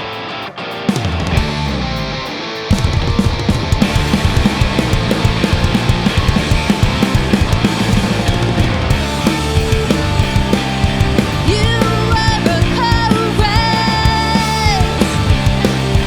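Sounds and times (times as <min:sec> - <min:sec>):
rock band playing: 0:00.0 - 0:16.0
driving drumming: 0:00.9 - 0:16.0.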